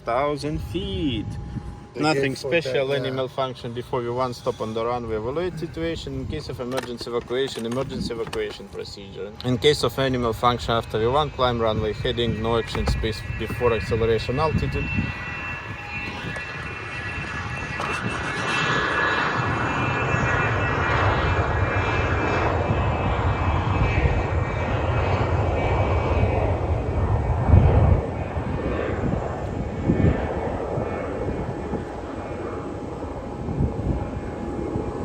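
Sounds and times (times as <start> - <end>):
aircraft engines running: 0.0 - 35.0.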